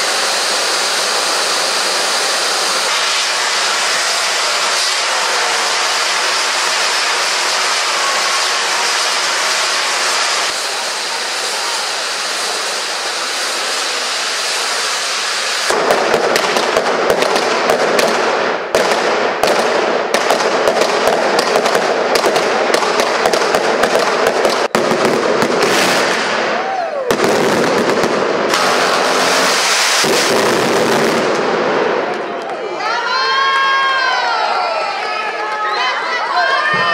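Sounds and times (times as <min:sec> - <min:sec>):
firecrackers cracking: 0:00.0 - 0:33.8
firecrackers hissing: 0:00.0 - 0:34.1.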